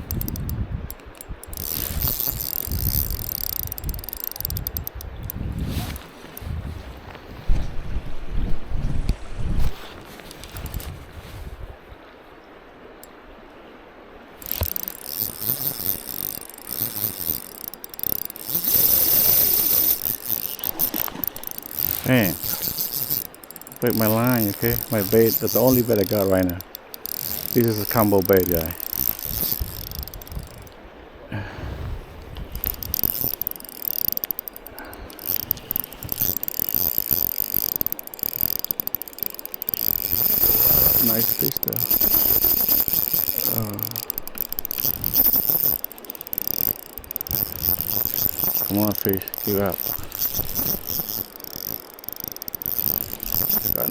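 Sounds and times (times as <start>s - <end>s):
fishing reel ratcheting: 0.0s - 6.6s, 10.4s - 10.9s, 14.4s - 30.8s, 32.4s - 53.9s.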